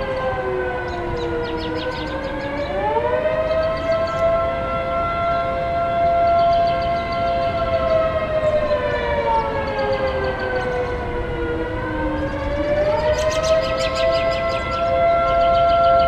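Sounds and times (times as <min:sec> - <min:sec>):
air raid sirens wailing: 0:00.0 - 0:16.0.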